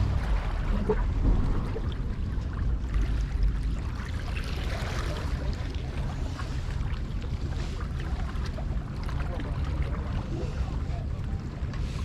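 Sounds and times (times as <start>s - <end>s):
seawater washing: 0.0s - 12.0s
wind rumbling on microphone: 0.0s - 12.0s.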